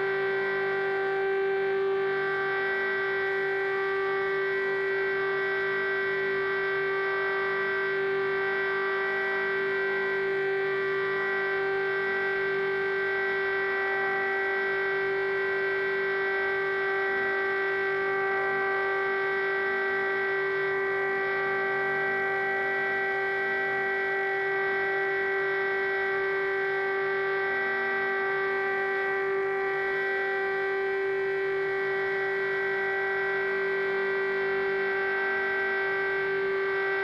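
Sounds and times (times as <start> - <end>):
air-raid siren steady tone: 0.0 - 37.0.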